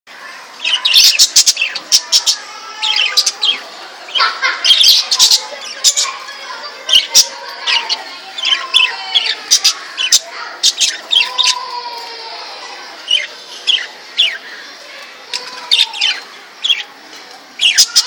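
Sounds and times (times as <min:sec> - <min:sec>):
budgerigars chirping and squawking: 0:00.5 - 0:18.0.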